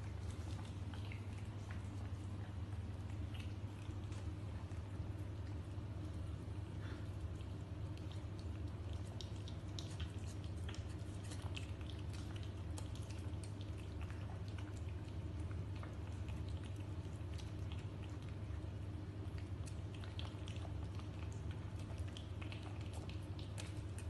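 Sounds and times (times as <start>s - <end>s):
cats chewing and lapping: 0.0s - 24.0s
steady low hum: 0.0s - 24.0s.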